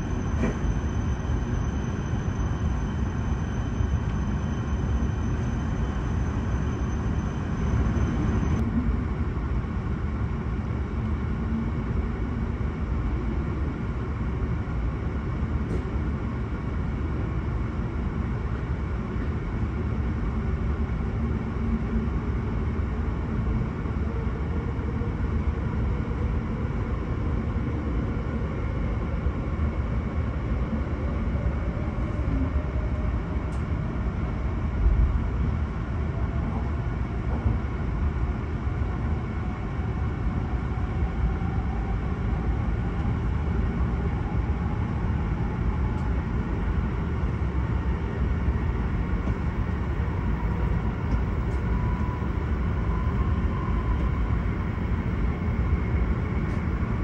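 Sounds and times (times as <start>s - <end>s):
train running rumble: 0.0s - 57.0s.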